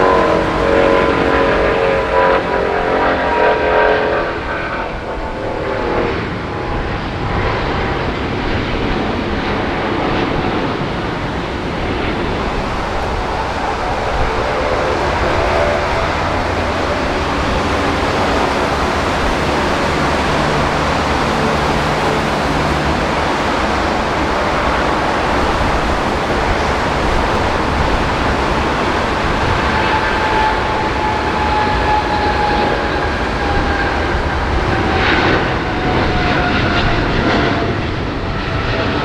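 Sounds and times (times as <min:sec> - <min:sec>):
heavy rain and water spray: 0:00.0 - 0:36.1
jet engine roar: 0:00.0 - 0:39.0
jet fan whine: 0:00.0 - 0:39.0.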